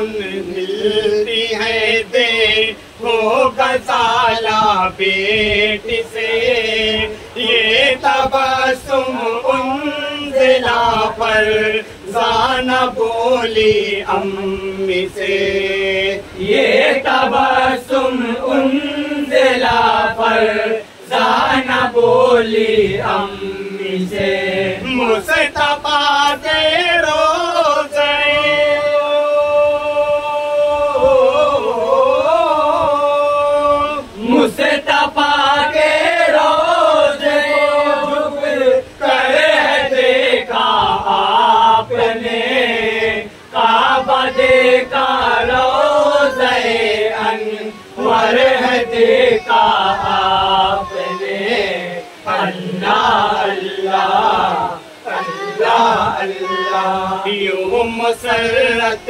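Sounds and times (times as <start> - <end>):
men singing unaccompanied: 0.0 - 59.0.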